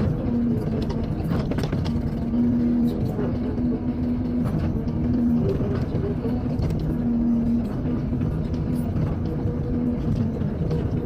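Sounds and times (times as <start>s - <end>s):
excavator engine rumble: 0.0s - 11.0s.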